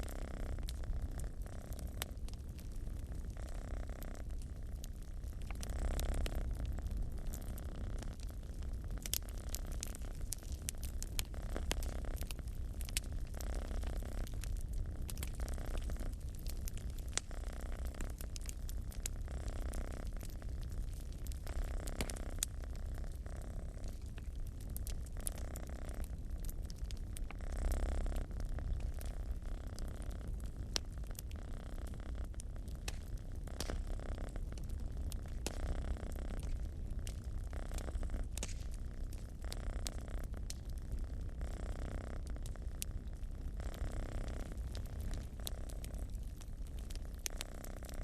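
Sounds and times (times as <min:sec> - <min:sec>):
cat purring: 0:00.0 - 0:48.0
wood fire crackling and popping: 0:00.0 - 0:48.0.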